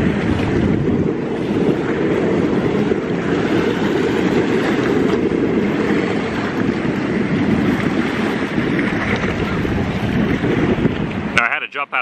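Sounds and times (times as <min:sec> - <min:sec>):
small waves washing: 0:00.0 - 0:12.0
wind buffeting the microphone: 0:00.0 - 0:12.0.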